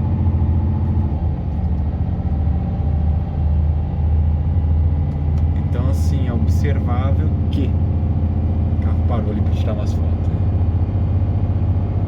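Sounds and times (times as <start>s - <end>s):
road rumble: 0.0s - 12.0s
truck diesel engine drone: 0.0s - 12.0s.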